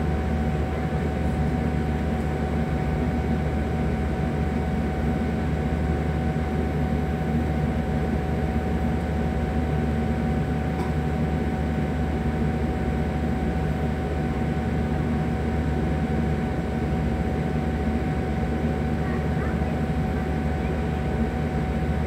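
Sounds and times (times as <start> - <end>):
jet cabin low rumble: 0.0 - 22.0.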